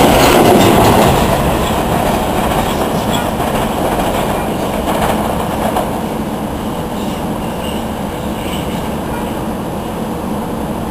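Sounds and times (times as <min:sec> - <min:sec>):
electric train rumbling: 0:00.0 - 0:10.9.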